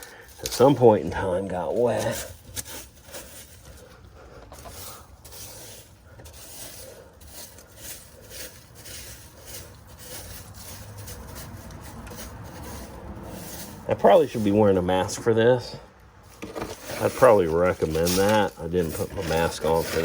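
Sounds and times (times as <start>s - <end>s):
rubbing and scraping: 0.0s - 20.0s.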